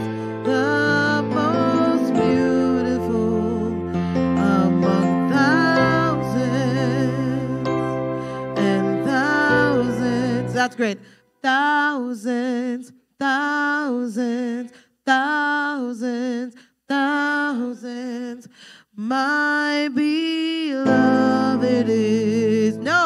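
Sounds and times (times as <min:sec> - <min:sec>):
person singing unaccompanied: 0:00.0 - 0:23.0.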